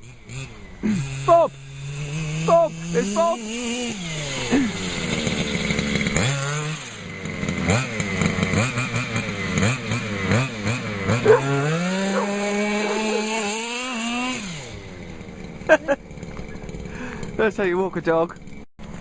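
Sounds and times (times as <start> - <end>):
small car engine revving: 0.0 - 19.0.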